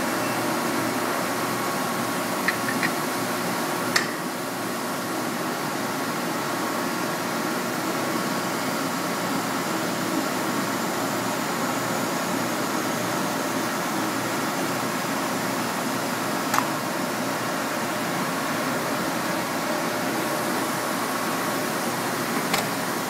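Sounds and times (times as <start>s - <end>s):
hydraulic pump humming and hissing: 0.0s - 23.0s.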